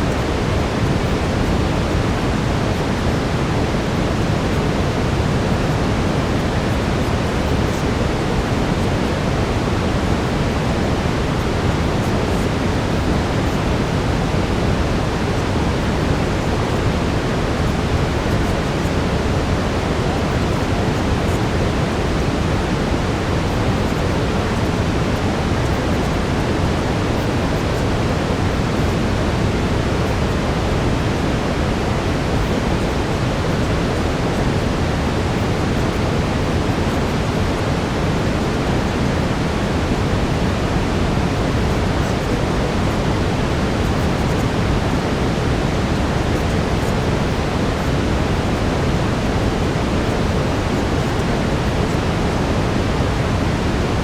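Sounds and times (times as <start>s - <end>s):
brown noise: 0.0s - 54.0s.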